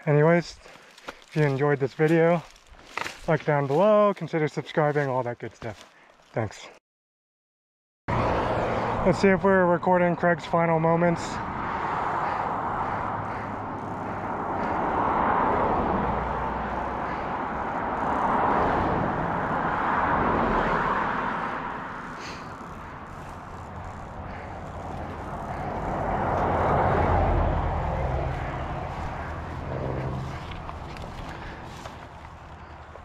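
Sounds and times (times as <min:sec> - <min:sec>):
highway traffic passing: 0:00.0 - 0:05.9, 0:08.1 - 0:33.0.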